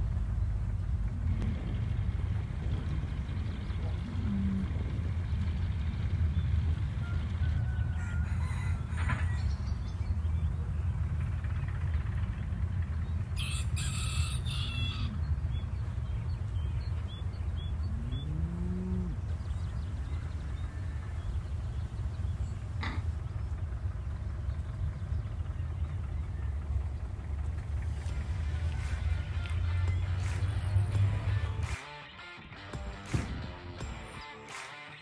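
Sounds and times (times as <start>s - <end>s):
low rumble: 0.0s - 31.8s
low drawn-out animal call: 0.9s - 31.6s
chickens clucking: 1.0s - 10.8s, 13.2s - 32.0s.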